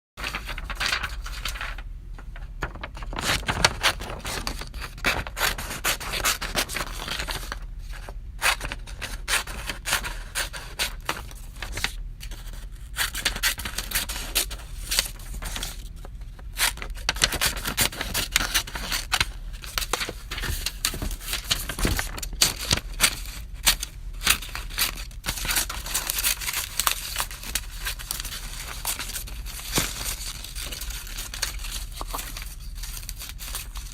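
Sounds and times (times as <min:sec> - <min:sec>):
scissors cutting paper: 0:03.2 - 0:07.6, 0:08.4 - 0:15.8, 0:16.6 - 0:33.9.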